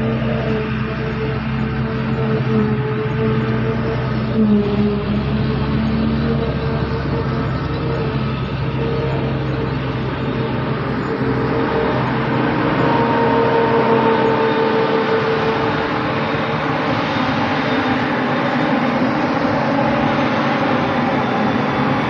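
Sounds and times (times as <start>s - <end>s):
forage harvester running: 0.0s - 22.0s
steady whine: 0.0s - 22.0s.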